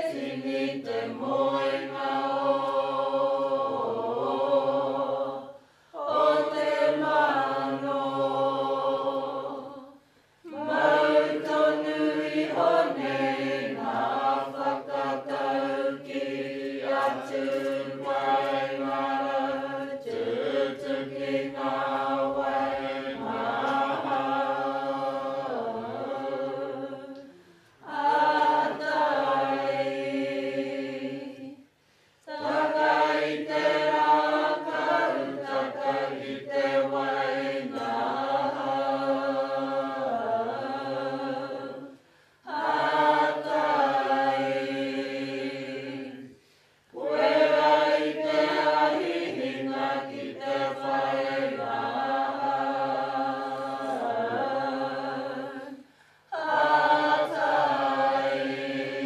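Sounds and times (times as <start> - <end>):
group of voices chanting in unison: 0.0 - 31.6, 32.3 - 59.0.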